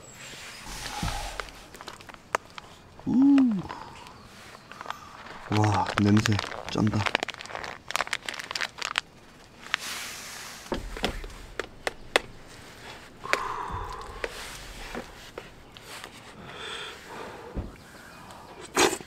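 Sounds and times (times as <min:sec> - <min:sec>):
crinkling rustle: 0:00.0 - 0:19.0.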